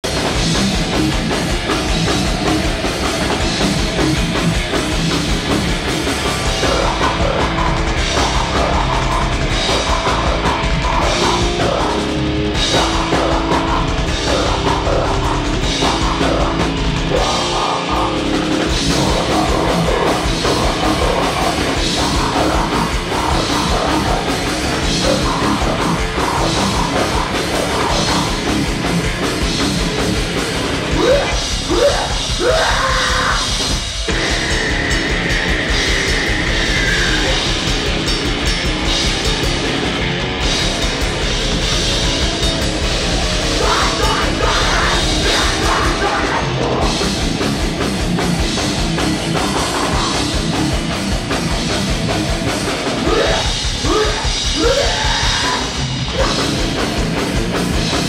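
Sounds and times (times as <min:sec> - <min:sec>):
heavy metal band playing live: 0:00.0 - 0:58.0
pounding drum kit: 0:00.0 - 0:58.0.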